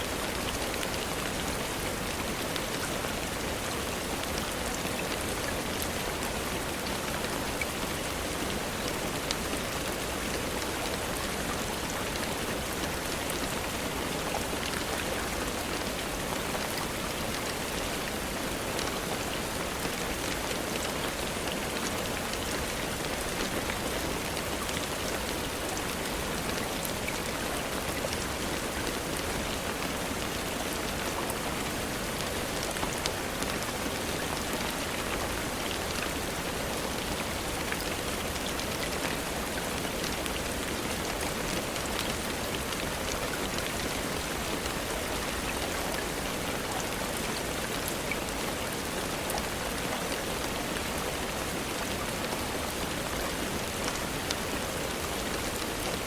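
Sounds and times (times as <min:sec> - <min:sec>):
faint ticks of raindrops: 0:00.0 - 0:56.0
steady rainfall: 0:00.0 - 0:56.0.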